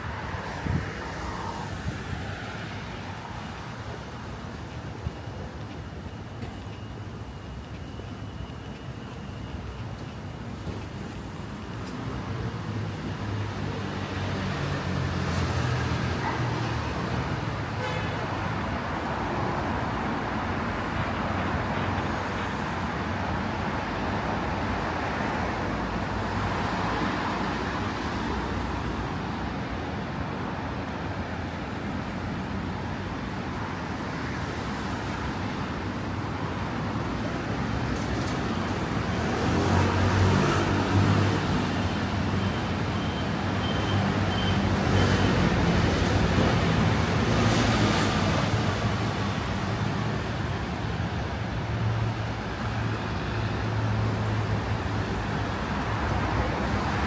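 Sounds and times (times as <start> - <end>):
cars and buses passing: 0.0 - 57.0.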